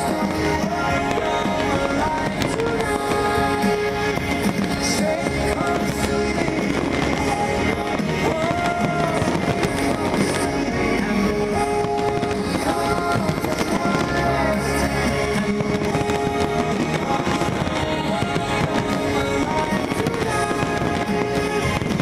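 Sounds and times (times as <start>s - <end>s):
fireworks bursting and crackling: 0.0s - 22.0s
music: 0.0s - 22.0s.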